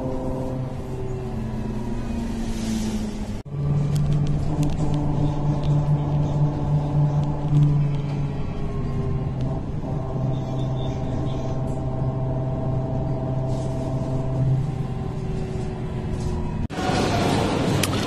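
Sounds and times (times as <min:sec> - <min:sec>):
bus engine humming: 0:00.0 - 0:18.0.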